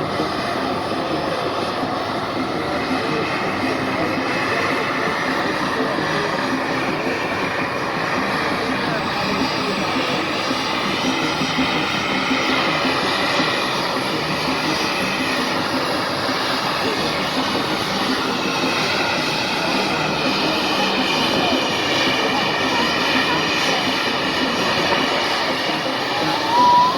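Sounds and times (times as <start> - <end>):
jet engines in flight: 0.0 - 26.9.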